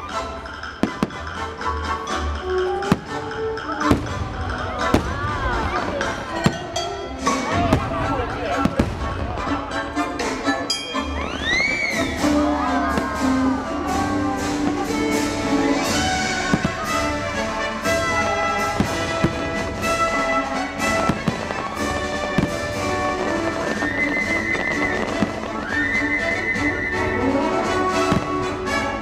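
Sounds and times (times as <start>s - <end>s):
loud show music: 0.0s - 29.0s
fireworks bursting with sharp bangs: 0.1s - 1.6s, 2.7s - 9.6s, 11.6s - 29.0s.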